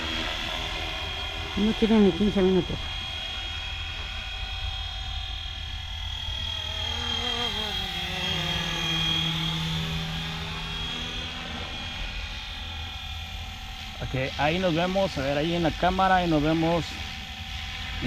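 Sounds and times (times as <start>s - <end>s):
rc helicopter motor and rotors whining: 0.0s - 18.0s.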